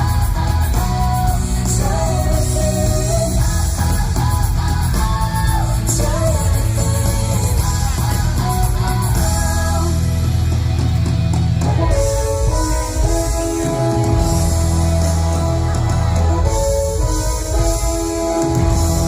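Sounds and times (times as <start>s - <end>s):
person singing: 0.0s - 10.5s, 11.6s - 19.0s
guitar: 0.0s - 19.0s
heavy bass: 0.0s - 19.0s
pop-rock music: 0.0s - 19.0s.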